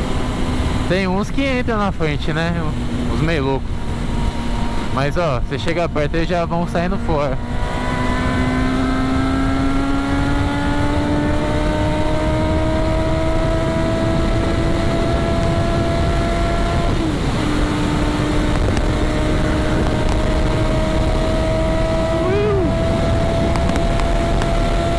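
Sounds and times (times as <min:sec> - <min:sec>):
motorcycle engine: 0:00.0 - 0:24.9.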